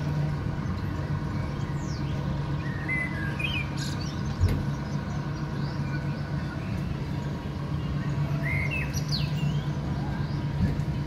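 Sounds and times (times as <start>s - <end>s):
birds chirping: 0.0s - 11.0s
ride car rumbling on track: 0.0s - 11.0s.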